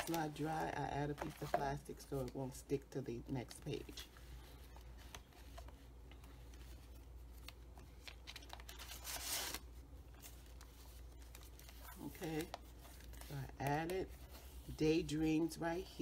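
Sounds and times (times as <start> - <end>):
paper pages rustling: 0.0 - 2.6, 3.5 - 15.3.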